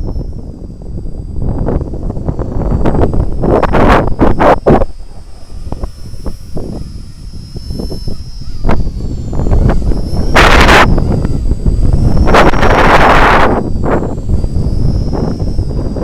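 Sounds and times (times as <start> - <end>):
rc helicopter motor whine: 0.0 - 16.0
wind buffeting microphone: 0.0 - 16.0.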